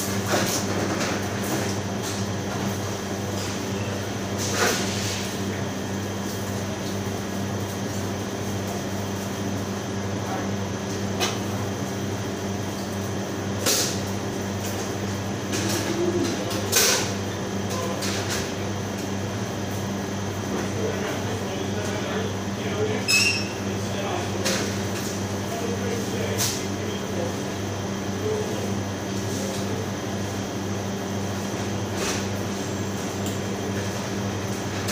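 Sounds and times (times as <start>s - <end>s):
electrical machinery hum: 0.0s - 34.9s.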